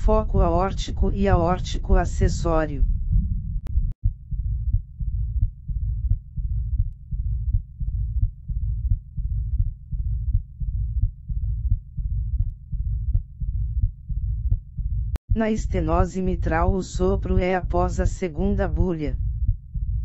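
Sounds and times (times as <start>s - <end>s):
heart murmur: 0.0s - 20.0s
regular heartbeats: 0.0s - 20.0s.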